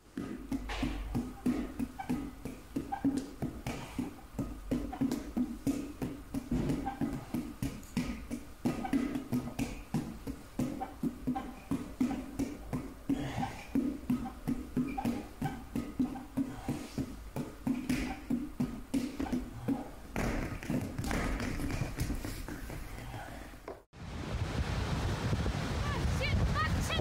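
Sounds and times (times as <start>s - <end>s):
balls falling onto mat: 0.1s - 23.8s
rubber balls tapping hands: 0.1s - 23.8s.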